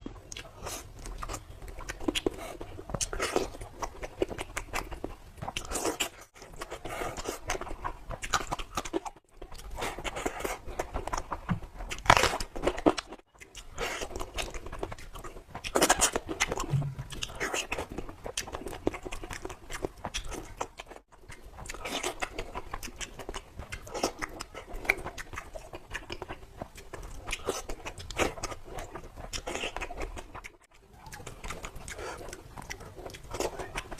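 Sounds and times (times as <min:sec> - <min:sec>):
person chewing with wet smacks: 0:00.0 - 0:33.9.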